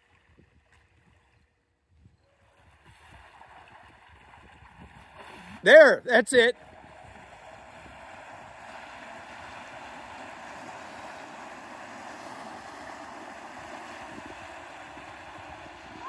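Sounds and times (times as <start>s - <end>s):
rushing wash of water: 2.6s - 16.0s.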